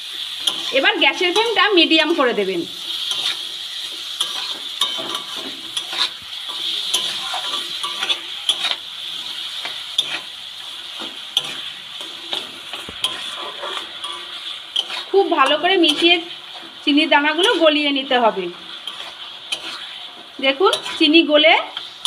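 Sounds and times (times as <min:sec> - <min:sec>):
oil frying sizzle: 0:00.0 - 0:22.0
spatula scraping a pan: 0:00.1 - 0:22.0.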